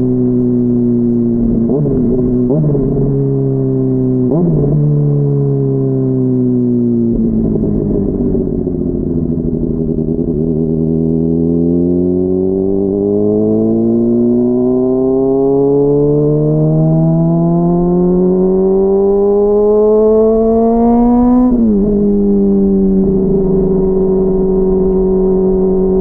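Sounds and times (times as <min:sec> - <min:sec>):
muffled motorcycle engine accelerating: 0:00.0 - 0:26.0.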